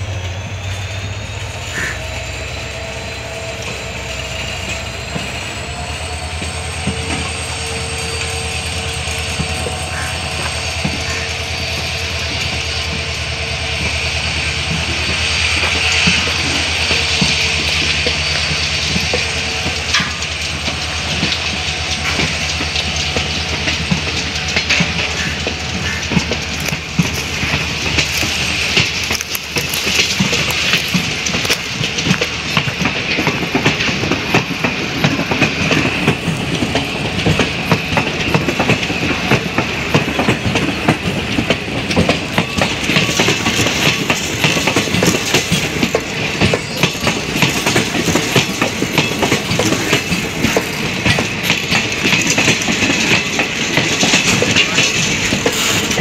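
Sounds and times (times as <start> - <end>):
continuous train rumble: 0.0 - 56.0
train wheels clattering over rail joints: 0.0 - 56.0.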